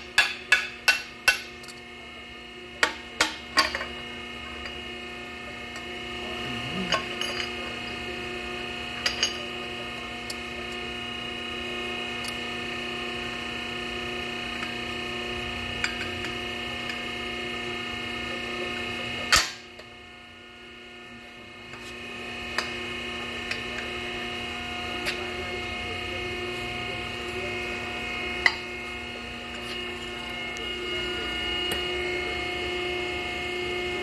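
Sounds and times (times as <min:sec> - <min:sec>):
power unit humming: 0:00.0 - 0:34.0.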